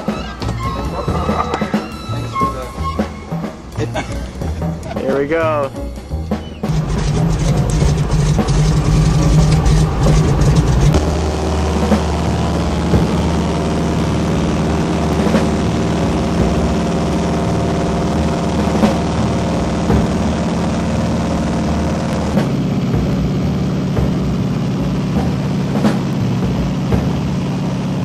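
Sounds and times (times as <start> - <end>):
aircraft radial engine running: 0.0 - 28.0.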